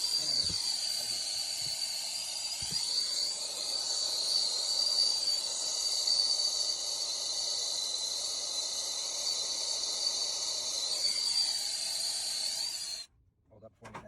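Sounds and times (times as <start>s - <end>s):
torch flame hissing: 0.0s - 13.1s.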